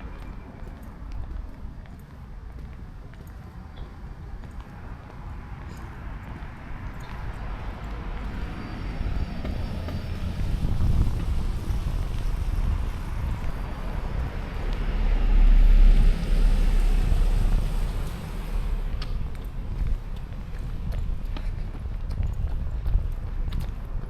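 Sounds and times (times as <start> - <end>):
vehicle passing rumble: 3.6 - 24.0.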